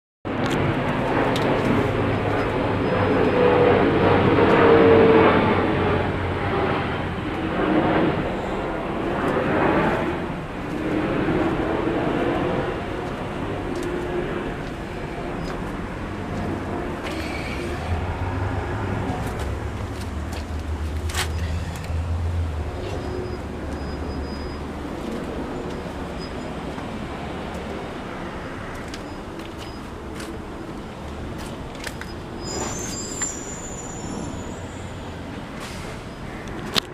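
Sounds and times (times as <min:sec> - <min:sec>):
steady low engine hum: 0:00.3 - 0:32.5
vehicles passing: 0:00.3 - 0:36.9.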